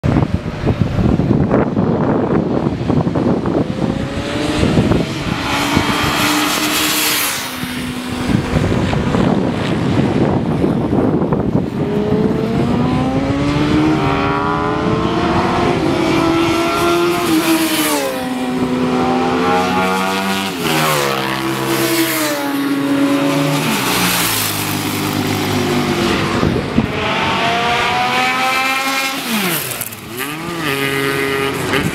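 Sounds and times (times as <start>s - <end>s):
racing motorcycle engines: 0.1s - 31.9s
motorcycle passing by: 3.3s - 31.9s.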